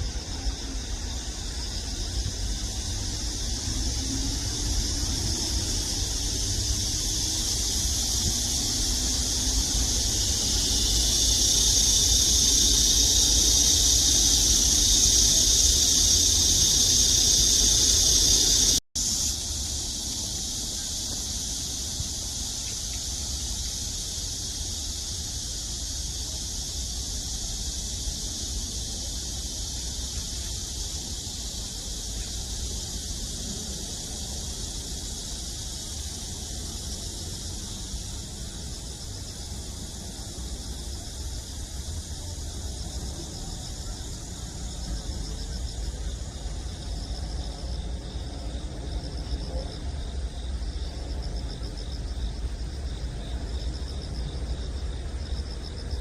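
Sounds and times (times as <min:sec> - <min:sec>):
high hiss: 0:00.0 - 0:56.0.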